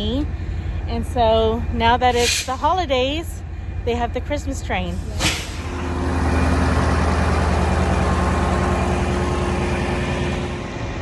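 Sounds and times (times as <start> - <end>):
large engine running: 0.0 - 11.0.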